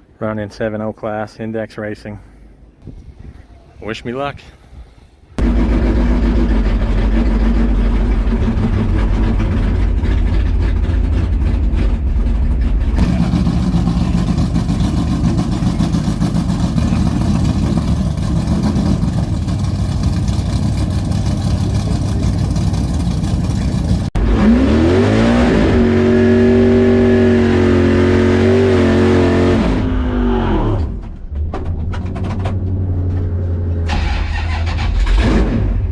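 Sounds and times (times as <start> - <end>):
heavy engine rumble: 5.0 - 35.9
drag car accelerating hard: 5.4 - 31.0, 32.2 - 35.9.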